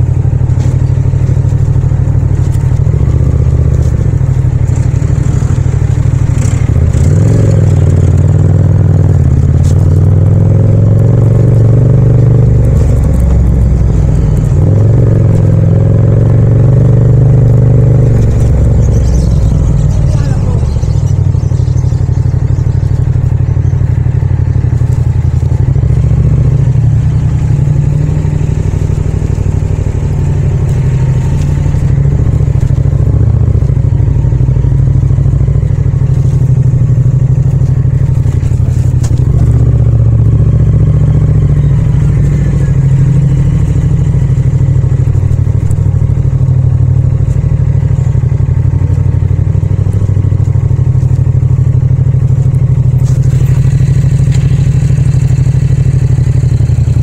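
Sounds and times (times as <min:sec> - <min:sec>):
motorcycle engine at low revs: 0:00.0 - 0:57.0.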